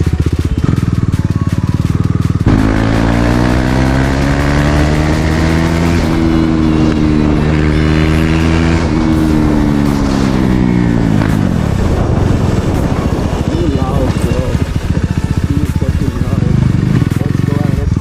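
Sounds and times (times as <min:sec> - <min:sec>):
straight-piped motorcycle engine revving: 0:00.0 - 0:18.0.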